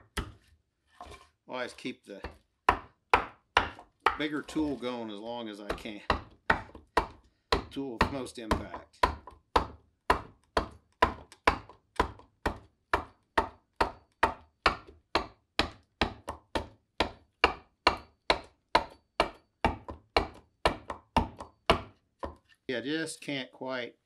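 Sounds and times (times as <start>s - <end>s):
adze chopping wood: 0.0s - 0.4s, 2.2s - 4.9s, 5.6s - 22.4s.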